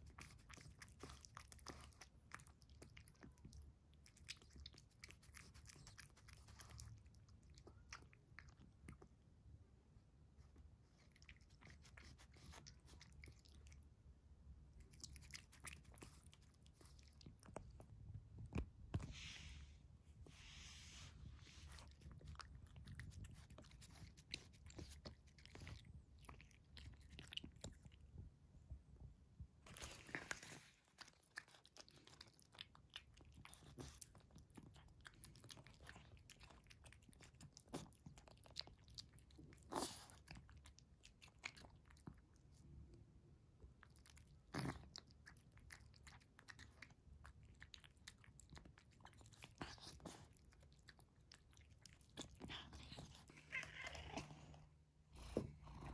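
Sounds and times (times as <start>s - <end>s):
cat chewing and lapping: 0.0s - 55.9s.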